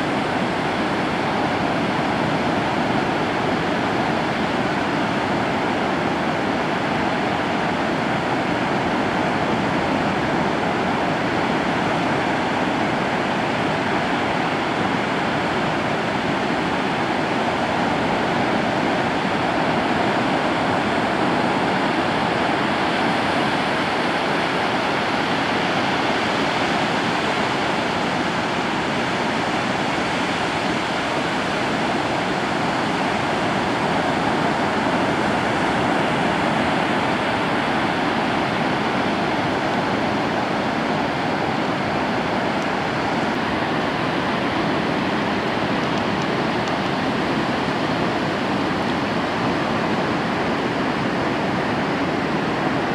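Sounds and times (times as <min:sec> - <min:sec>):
ocean surf roaring: 0:00.0 - 0:52.9.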